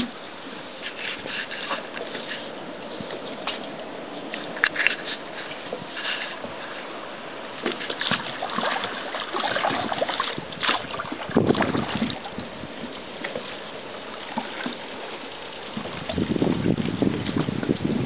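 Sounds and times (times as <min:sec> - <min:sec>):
paddle strokes splashing water: 0:00.0 - 0:18.0.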